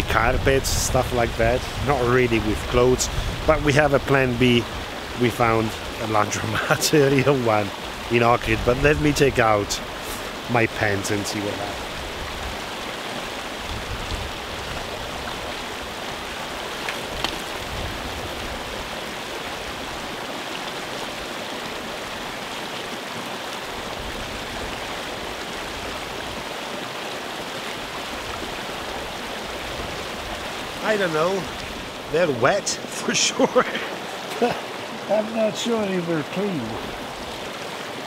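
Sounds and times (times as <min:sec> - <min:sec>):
water pouring and churning: 0:00.0 - 0:38.0.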